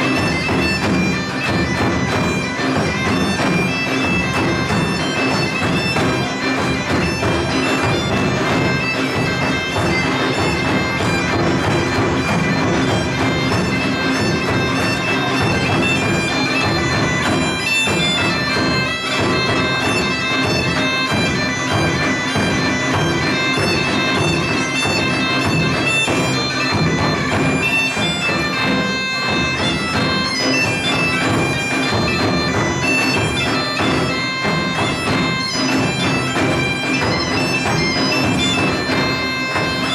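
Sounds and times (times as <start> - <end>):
bagpipe playing folk tune: 0.0 - 39.9.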